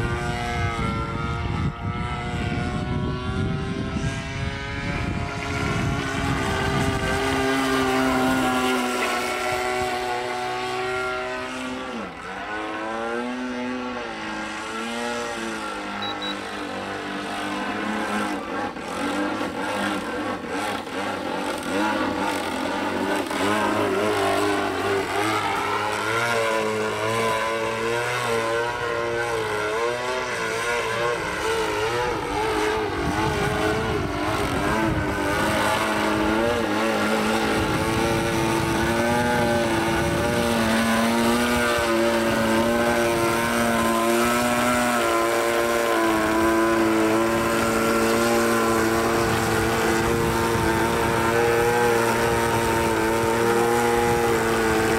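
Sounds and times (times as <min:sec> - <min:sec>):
model plane engine droning: 0:00.0 - 0:54.9.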